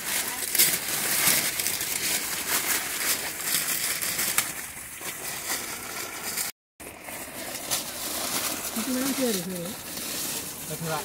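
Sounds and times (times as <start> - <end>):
paper wrapping crinkling: 0.0 - 11.0.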